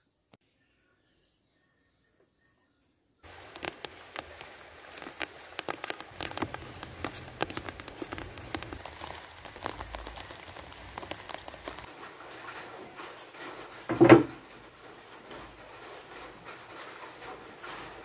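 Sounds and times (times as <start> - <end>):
light rain pattering: 3.2 - 18.0.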